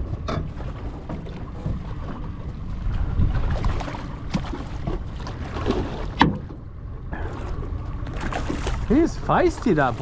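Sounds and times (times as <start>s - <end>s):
wind rumbling on microphone: 0.0s - 9.0s
water against boat hull: 0.0s - 10.0s.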